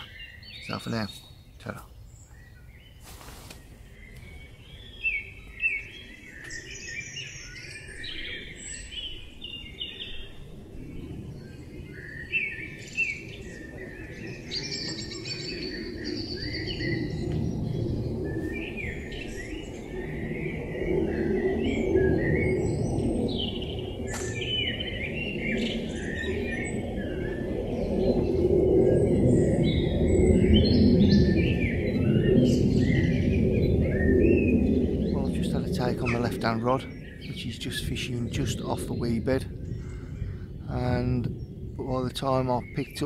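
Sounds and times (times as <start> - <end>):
birds chirping and trilling: 0.0 - 43.0
low rumbling noise: 0.0 - 43.0.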